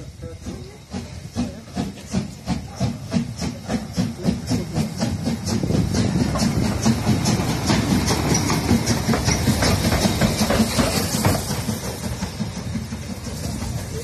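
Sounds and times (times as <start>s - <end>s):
steam locomotive exhaust chuffing: 0.0s - 14.0s
wheels rumbling on rails: 0.0s - 14.0s.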